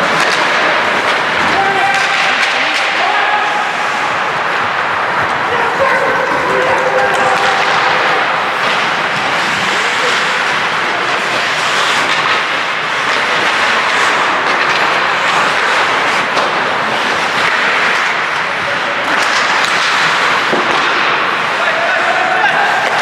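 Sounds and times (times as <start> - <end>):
hockey sticks and puck clacking: 0.0 - 23.0
skate blades scraping on ice: 0.0 - 23.0.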